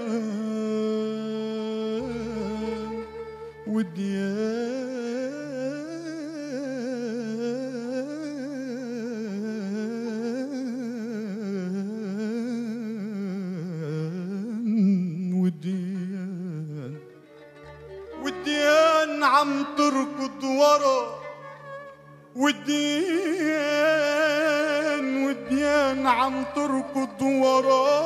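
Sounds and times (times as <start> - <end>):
man singing wordless melisma: 0.0 - 28.0.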